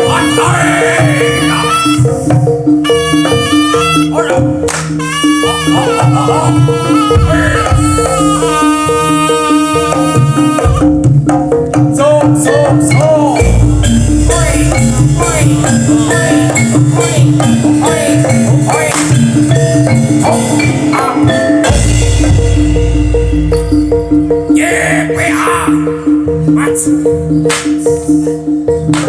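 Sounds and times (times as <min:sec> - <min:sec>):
drums: 0:00.0 - 0:29.0
gliding melodic line: 0:00.0 - 0:29.0
tuned percussion notes: 0:00.0 - 0:29.0.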